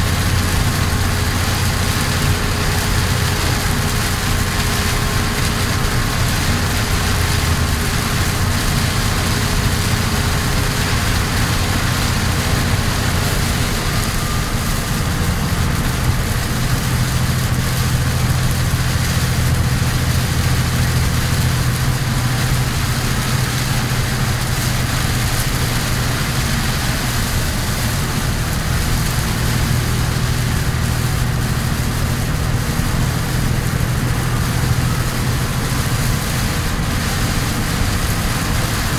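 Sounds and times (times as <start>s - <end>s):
heavy rain on cab: 0.0s - 38.9s
truck diesel engine droning: 0.0s - 38.9s.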